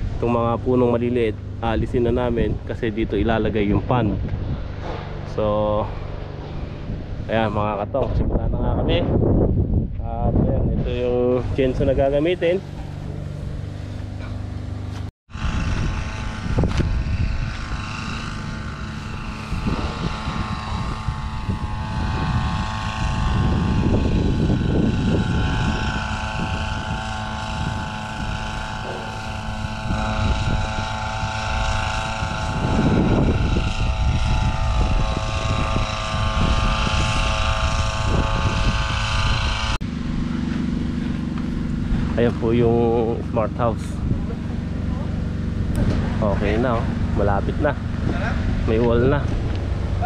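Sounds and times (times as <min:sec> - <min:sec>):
chainsaw engine running: 0:00.0 - 0:08.9, 0:10.8 - 0:50.0.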